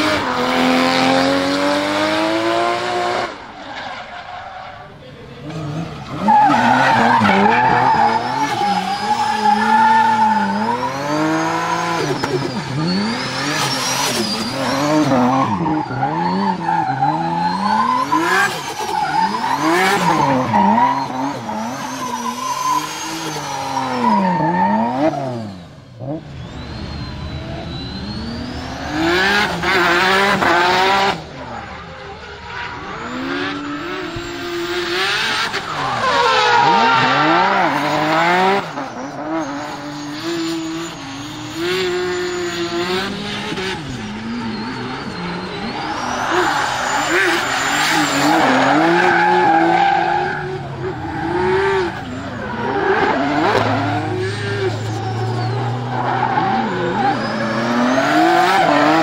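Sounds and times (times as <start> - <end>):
car engine revving: 0.0 - 3.6, 4.3 - 59.0
tyre squeal: 3.6 - 59.0.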